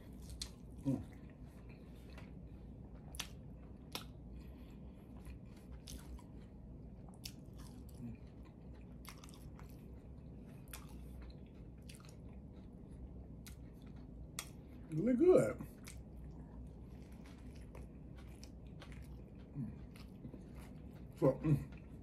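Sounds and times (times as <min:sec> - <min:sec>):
person chewing and biting food: 0:00.0 - 0:14.9, 0:15.7 - 0:22.0
low steady hum: 0:00.0 - 0:22.0.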